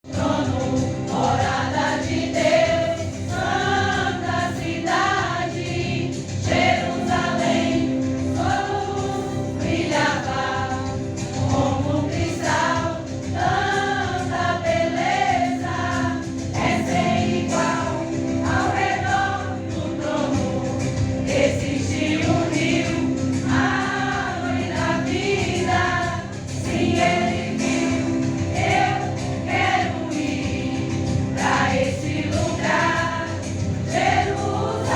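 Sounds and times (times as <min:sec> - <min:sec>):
church choir singing a hymn: 0:00.0 - 0:34.9.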